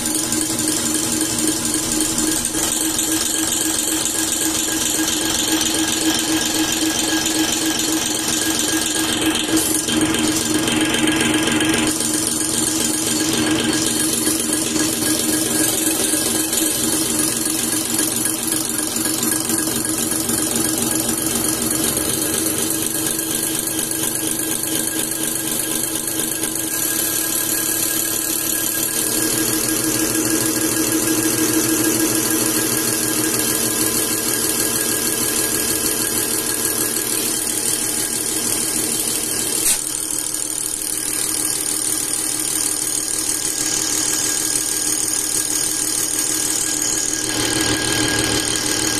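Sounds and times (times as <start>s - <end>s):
injection pump test bench whining: 0.0s - 48.9s.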